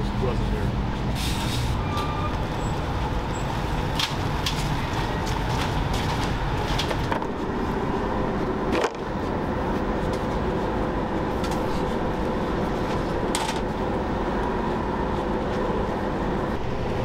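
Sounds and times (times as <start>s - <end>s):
engine rumble: 0.0s - 17.0s.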